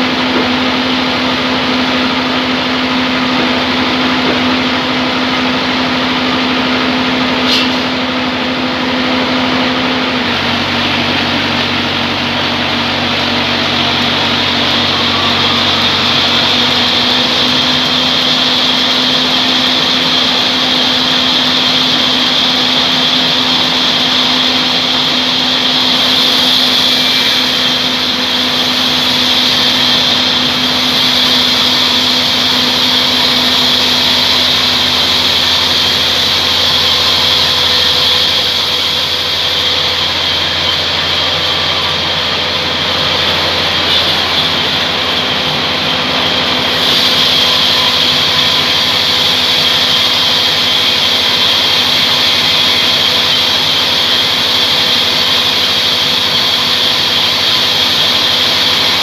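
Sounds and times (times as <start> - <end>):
band sawmill running: 0.0 - 59.0.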